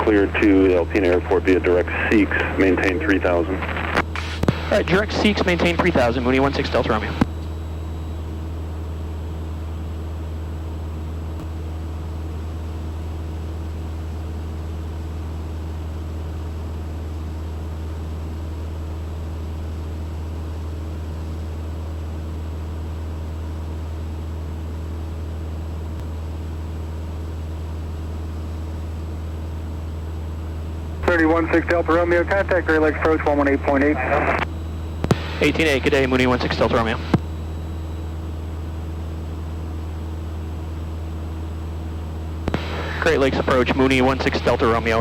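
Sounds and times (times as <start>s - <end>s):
aircraft cabin engine drone: 0.0s - 45.0s.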